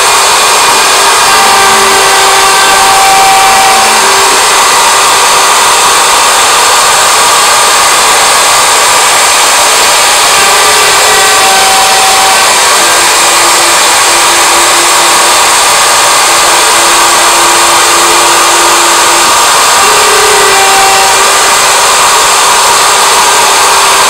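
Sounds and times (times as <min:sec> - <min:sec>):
router spindle cutting wood: 0:00.0 - 0:24.0.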